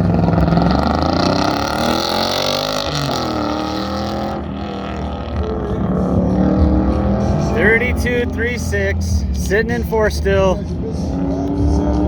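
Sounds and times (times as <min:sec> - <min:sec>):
race truck engine revving: 0:00.0 - 0:12.0.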